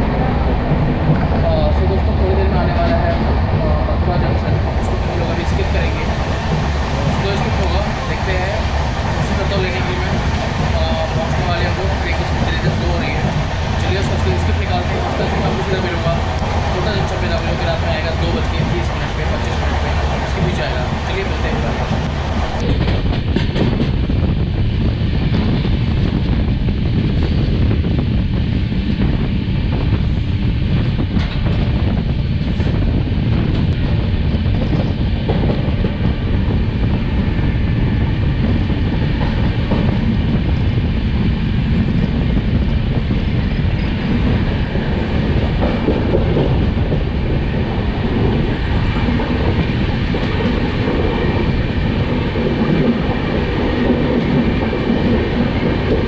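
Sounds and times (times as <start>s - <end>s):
train wheels on track: 0.0s - 56.0s.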